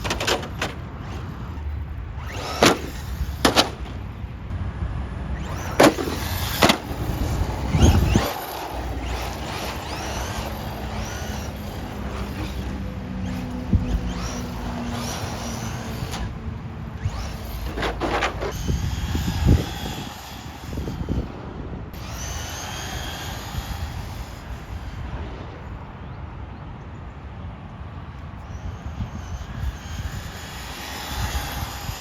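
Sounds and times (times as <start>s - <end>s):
electric rc car motor whine: 0.0s - 25.2s, 28.4s - 32.0s.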